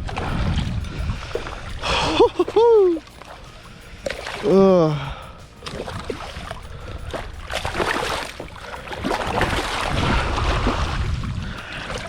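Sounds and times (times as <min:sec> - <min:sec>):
water sloshing and lapping: 0:00.0 - 0:12.0.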